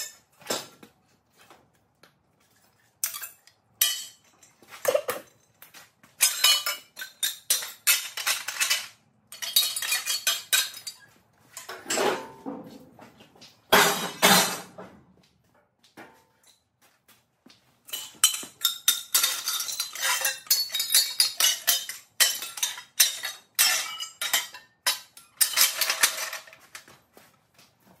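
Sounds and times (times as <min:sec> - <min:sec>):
metal tubing clattering on concrete: 0:00.0 - 0:01.6, 0:02.4 - 0:15.0, 0:17.9 - 0:28.0.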